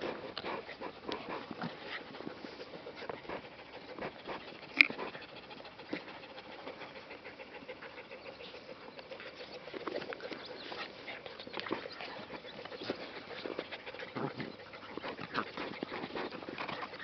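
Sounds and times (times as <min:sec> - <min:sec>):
dogs panting: 0:00.0 - 0:17.0
puppies vocalizing: 0:00.0 - 0:17.0.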